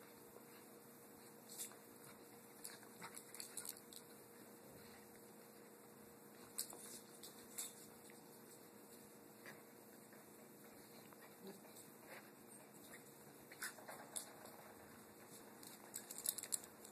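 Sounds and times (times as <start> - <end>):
room hum: 0.0 - 16.9.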